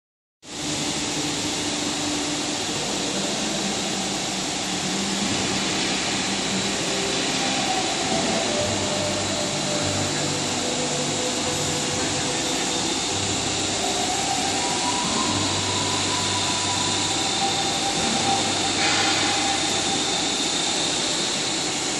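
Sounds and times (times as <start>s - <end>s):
low hum tones shifting pitch: 0.5s - 21.9s
stone machine whir and hiss: 0.5s - 21.9s.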